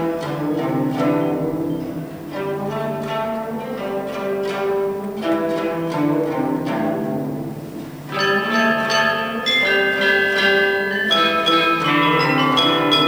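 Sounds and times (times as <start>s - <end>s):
plucked zither ensemble music: 0.0s - 13.0s.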